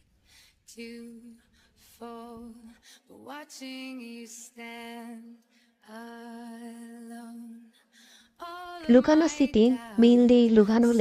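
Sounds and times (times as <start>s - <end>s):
woman singing slow song: 0.6s - 11.0s.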